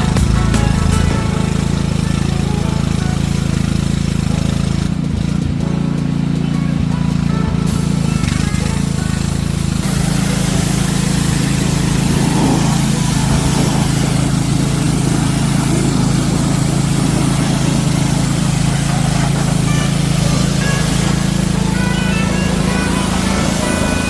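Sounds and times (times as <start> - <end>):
small gas engine running: 0.0 - 24.0
spray hissing: 0.0 - 24.0.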